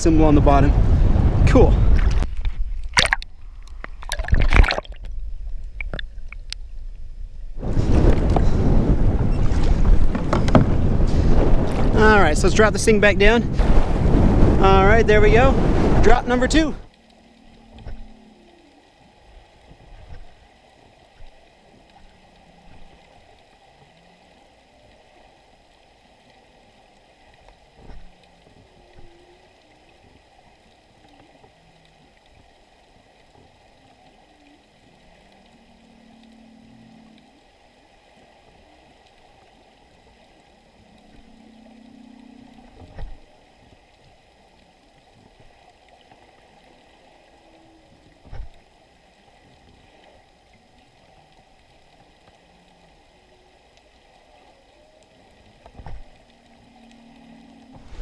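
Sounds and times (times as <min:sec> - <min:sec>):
soft low hums: 0:00.0 - 0:58.0.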